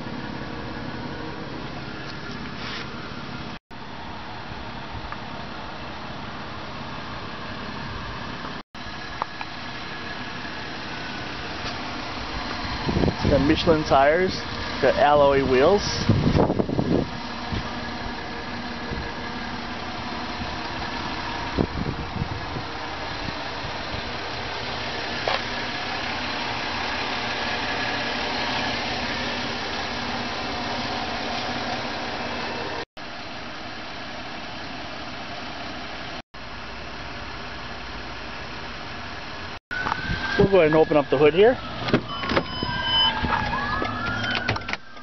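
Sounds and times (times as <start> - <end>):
car engine idling: 0.0 - 45.0.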